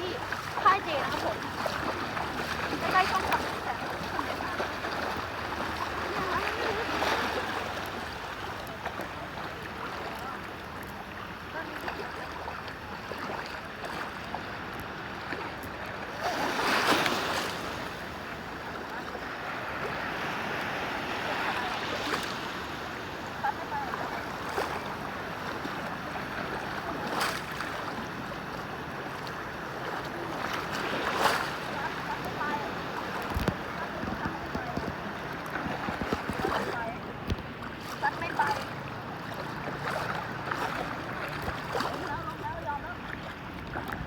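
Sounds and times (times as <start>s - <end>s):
sea waves washing on shore: 0.0s - 44.0s.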